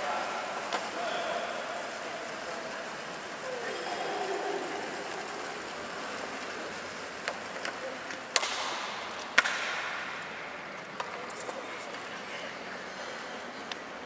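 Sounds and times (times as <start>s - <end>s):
bicycle tyres whirring on rollers: 0.0s - 14.0s.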